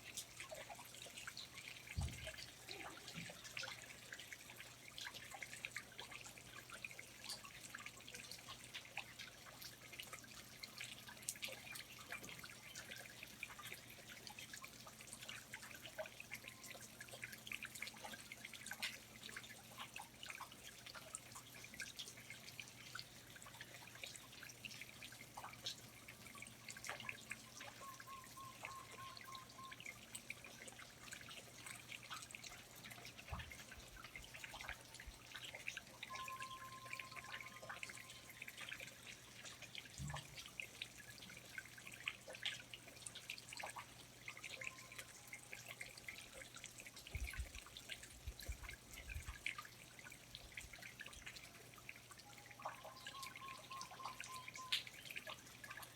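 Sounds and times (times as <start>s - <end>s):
water dripping from foliage: 0.0s - 55.9s.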